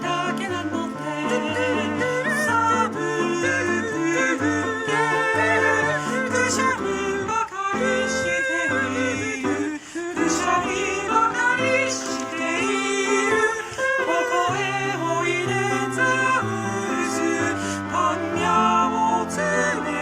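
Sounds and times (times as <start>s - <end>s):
man singing layered choral parts: 0.0s - 20.0s.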